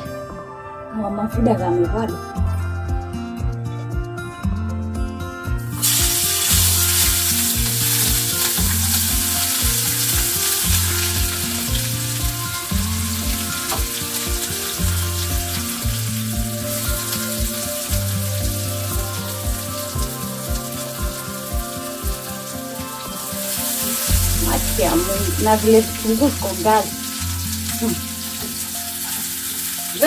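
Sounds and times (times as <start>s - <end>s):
background music with bass line: 0.0s - 30.0s
food sizzling in hot oil: 5.6s - 30.0s.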